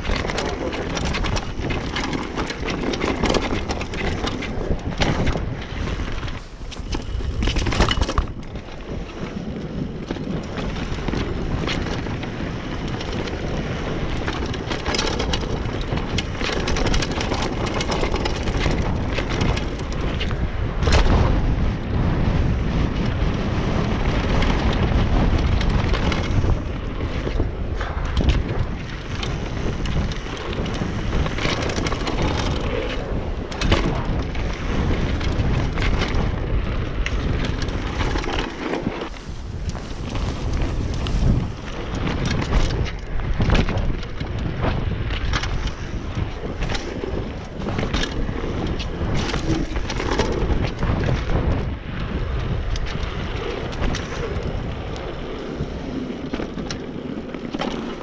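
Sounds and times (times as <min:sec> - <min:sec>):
bike rattling over bumps: 0:00.0 - 0:58.0
bike tyres rumbling on dirt: 0:00.0 - 0:58.0
wind on microphone: 0:00.0 - 0:58.0.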